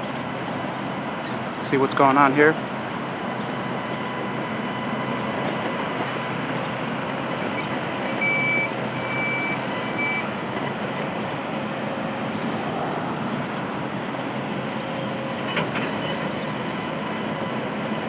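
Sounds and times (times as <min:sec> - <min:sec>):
backup alarm beeping: 0:00.0 - 0:12.3, 0:13.4 - 0:18.0
heavy vehicles rumbling: 0:00.0 - 0:18.0.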